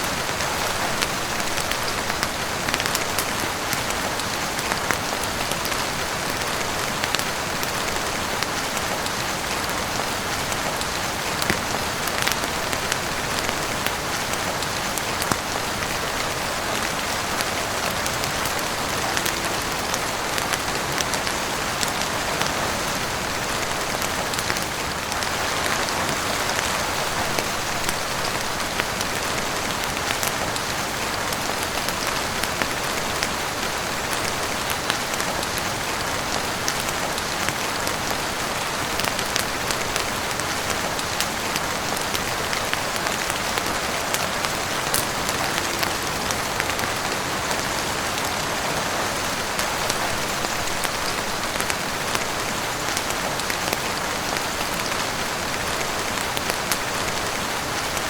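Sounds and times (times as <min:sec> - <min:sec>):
heavy rain on a roof: 0:00.0 - 0:58.0.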